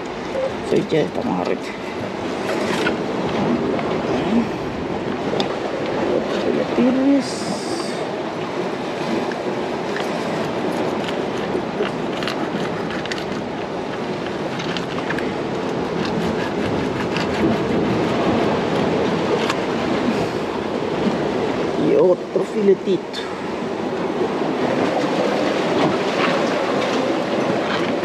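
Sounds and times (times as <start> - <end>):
ocean surf washing: 0.0 - 28.0.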